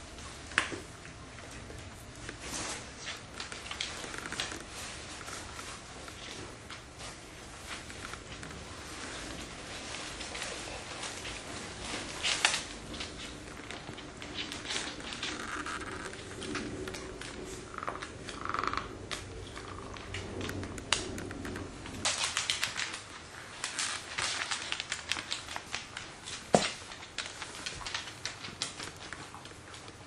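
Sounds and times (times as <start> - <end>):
dog toenails clicking on wood floor: 0.2 - 30.0.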